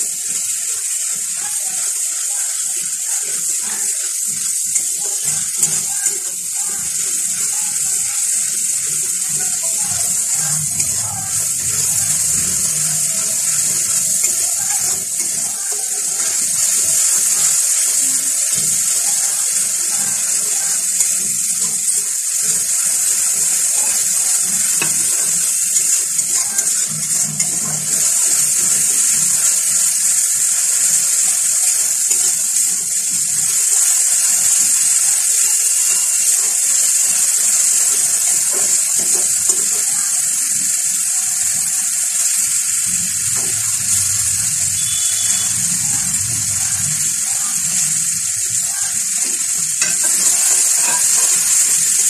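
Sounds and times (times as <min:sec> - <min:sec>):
onion sizzling in hot oil: 0:00.0 - 0:52.0
spatula stirring against pan: 0:00.0 - 0:52.0.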